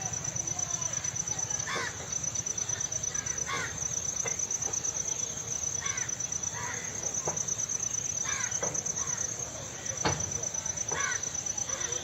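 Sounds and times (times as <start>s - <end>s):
crickets trilling: 0.0s - 12.0s
bird calls: 0.6s - 12.0s.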